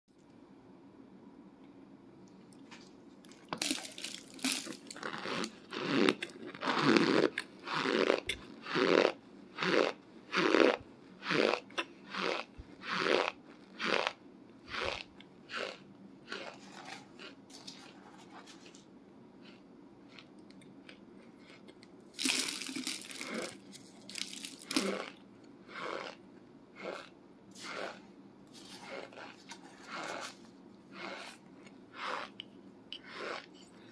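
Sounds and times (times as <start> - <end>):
crunchy chewing: 2.7 - 33.9.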